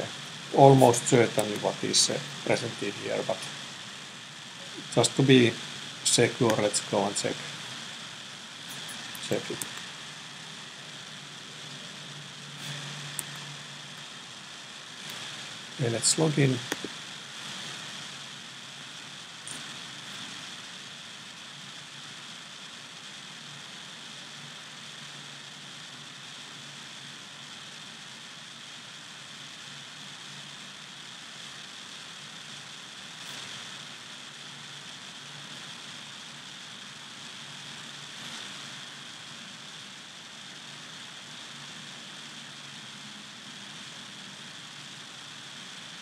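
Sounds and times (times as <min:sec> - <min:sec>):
background hiss: 0:00.0 - 0:46.0
faint low hum: 0:00.0 - 0:46.0.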